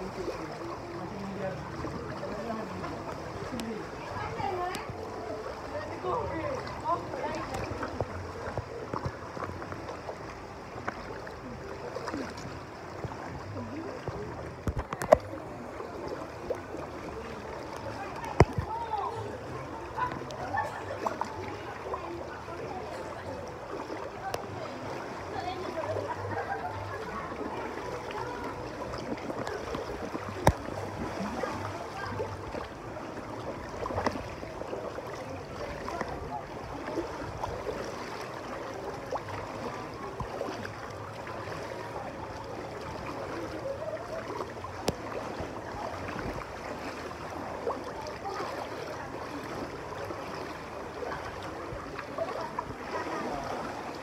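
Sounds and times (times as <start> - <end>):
faint voices: 0.0 - 54.0
water splashing in a pool: 0.0 - 54.0.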